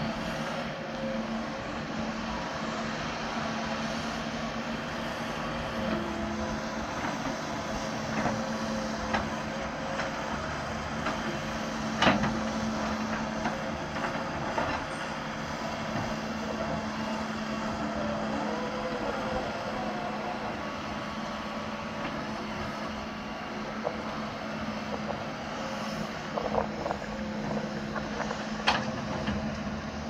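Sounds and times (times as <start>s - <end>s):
excavator diesel engine humming: 0.0s - 30.0s.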